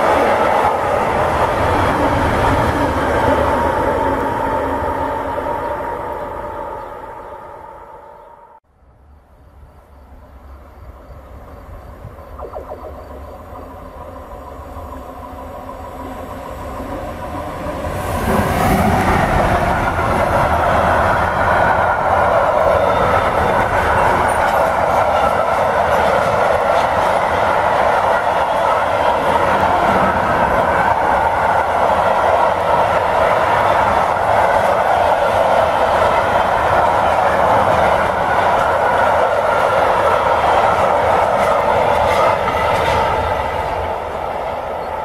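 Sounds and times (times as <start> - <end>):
electric locomotive passing: 0.0 - 45.0.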